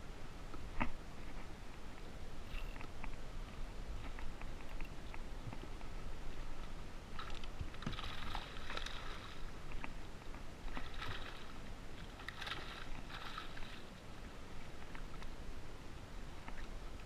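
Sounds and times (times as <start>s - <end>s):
water splashing around a kayak: 0.3s - 17.0s.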